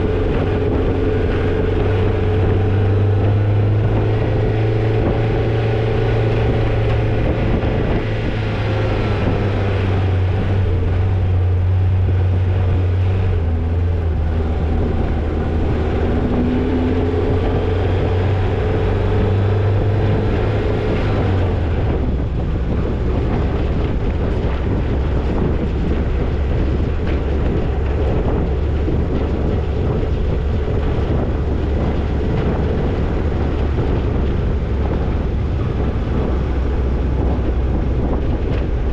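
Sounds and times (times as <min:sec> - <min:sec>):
car engine droning: 0:00.0 - 0:38.9
road noise: 0:00.0 - 0:38.9.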